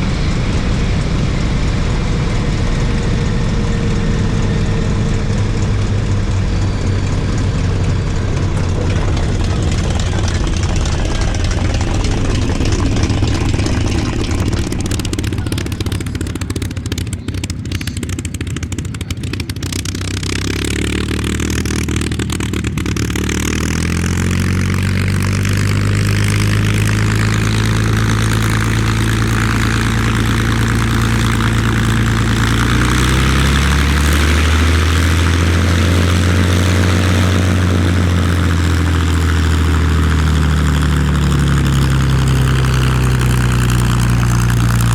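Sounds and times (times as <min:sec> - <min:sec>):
piston engine droning: 0:00.0 - 0:44.9.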